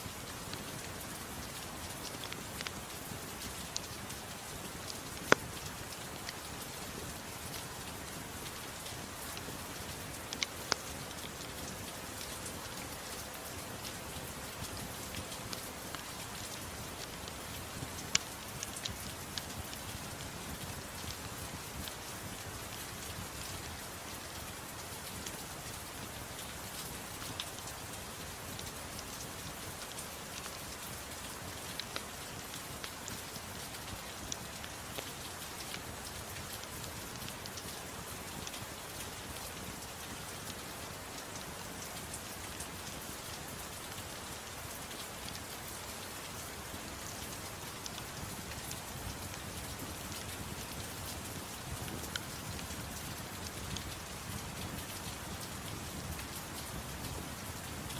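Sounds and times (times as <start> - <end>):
soft rain falling: 0.0 - 57.9.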